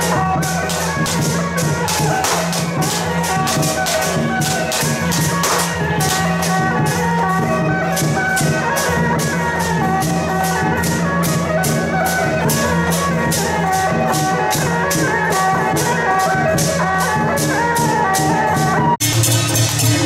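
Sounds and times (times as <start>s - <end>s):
fast percussion beat: 0.0s - 20.0s.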